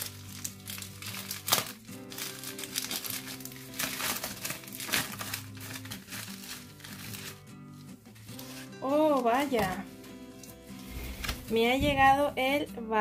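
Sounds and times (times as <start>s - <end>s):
plastic mailer envelopes crinkling: 0.0s - 11.6s
background music: 0.0s - 13.0s.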